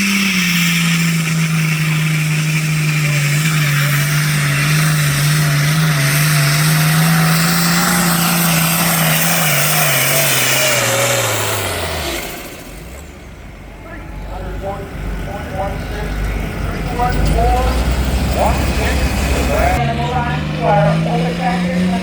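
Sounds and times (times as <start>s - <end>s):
tractor engine running under load: 0.0s - 22.0s.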